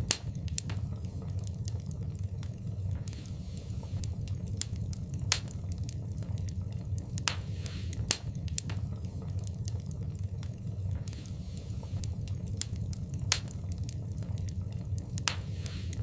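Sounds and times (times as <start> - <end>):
fire crackling and popping: 0.0 - 16.0
steady low rumble: 0.0 - 16.0.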